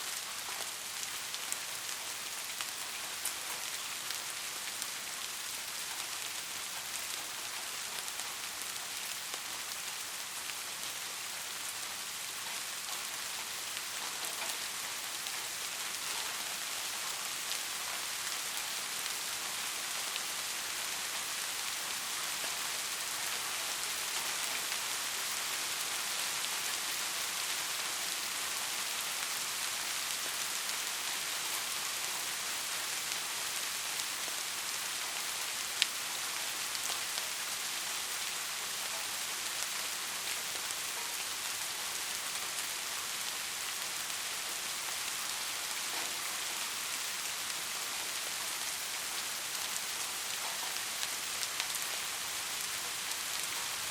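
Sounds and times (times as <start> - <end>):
soft rain pattering: 0.0 - 53.9.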